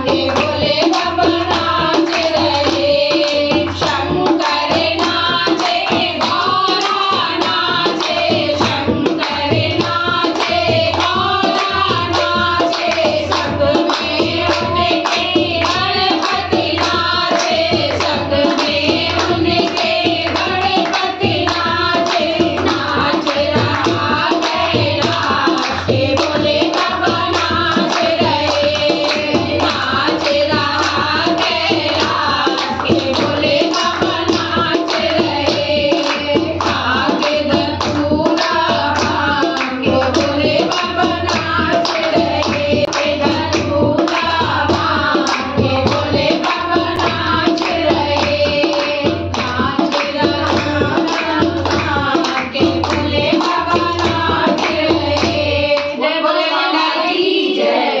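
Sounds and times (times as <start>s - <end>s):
hand clapping: 0.0s - 56.0s
hand drum beat: 0.0s - 56.0s
women singing together: 0.0s - 58.0s.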